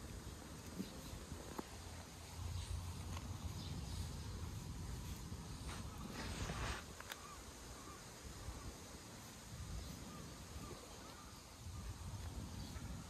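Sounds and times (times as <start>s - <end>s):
rustle: 0.0s - 13.0s
faint bird chirps: 2.2s - 13.0s.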